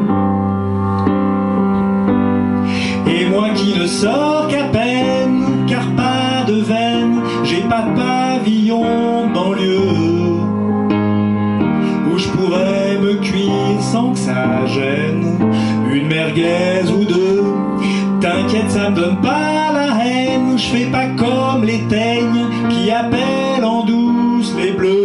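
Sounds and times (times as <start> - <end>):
karaoke backing track: 0.0 - 25.0
man singing into microphone: 2.7 - 10.7, 11.8 - 25.0.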